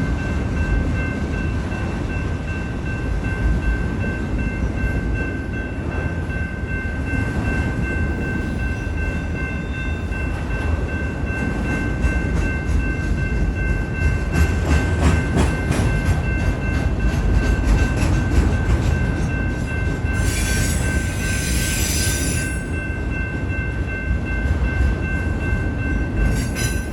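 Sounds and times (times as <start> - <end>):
train cars rumbling past: 0.0 - 26.9.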